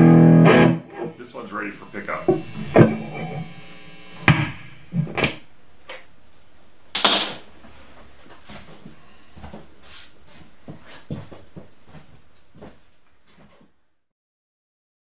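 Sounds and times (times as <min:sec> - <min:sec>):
low room noise: 0:00.0 - 0:14.1.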